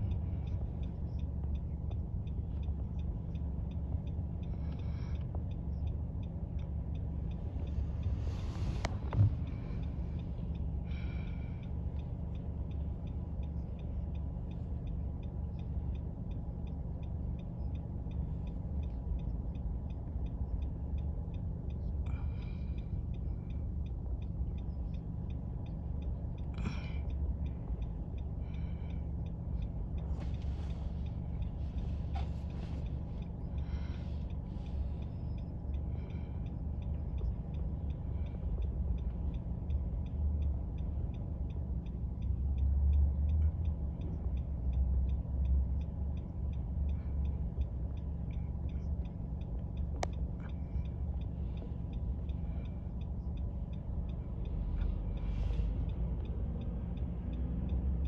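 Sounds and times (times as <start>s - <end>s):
car engine idling: 0.0s - 58.0s
faint ticking: 0.0s - 58.0s.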